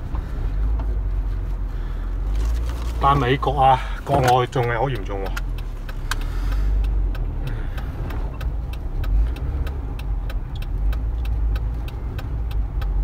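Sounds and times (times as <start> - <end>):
engine and road rumble: 0.0 - 13.0
even ticking: 0.0 - 13.0.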